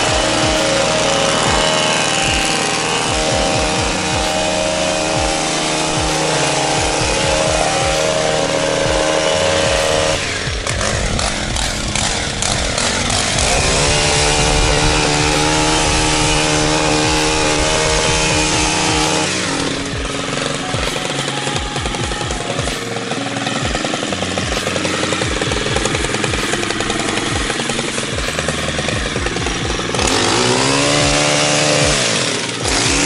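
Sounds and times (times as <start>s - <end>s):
hedge trimmer engine cutting: 0.0s - 33.0s.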